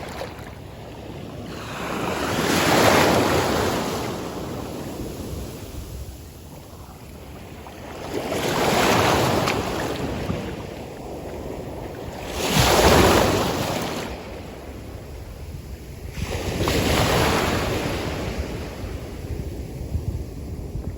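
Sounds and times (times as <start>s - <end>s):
surf waves breaking on beach: 0.0s - 20.9s.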